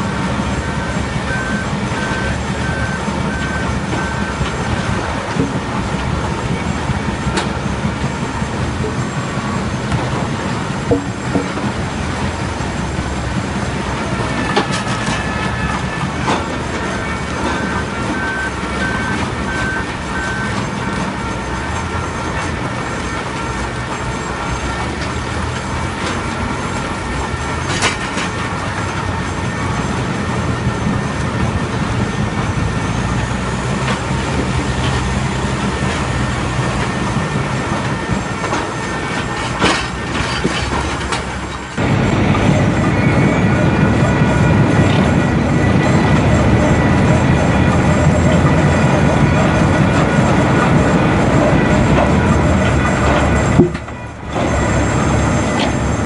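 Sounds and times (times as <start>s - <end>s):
machine humming and whining: 0.0s - 56.0s.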